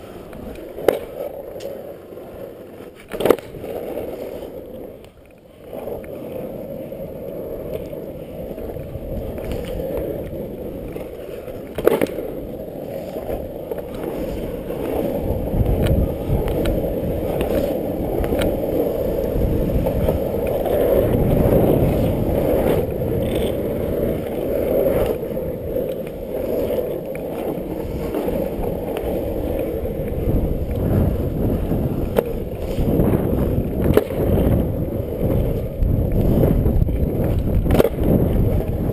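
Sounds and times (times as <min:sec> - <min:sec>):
skateboard wheels rumbling on asphalt: 0:00.0 - 0:38.9.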